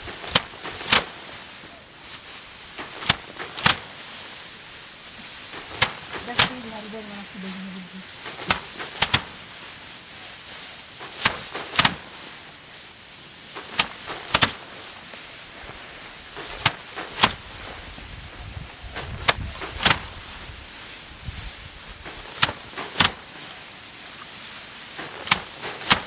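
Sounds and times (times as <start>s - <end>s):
rice bundles thudding on board: 0.0s - 18.3s, 18.9s - 26.0s.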